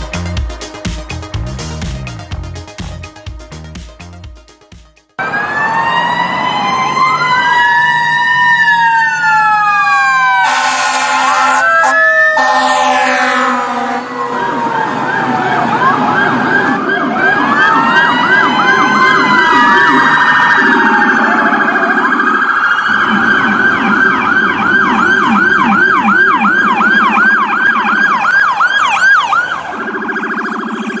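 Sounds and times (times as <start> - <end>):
electronic siren falling sweeps: 5.2 - 31.0.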